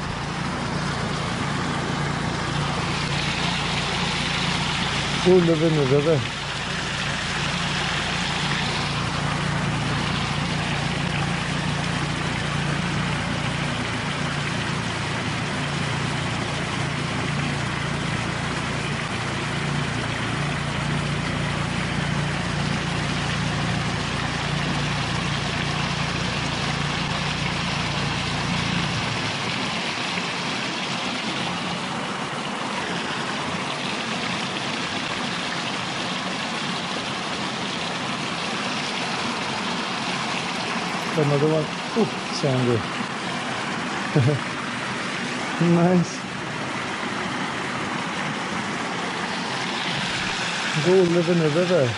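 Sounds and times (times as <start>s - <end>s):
water rushing over weir: 0.0s - 51.9s.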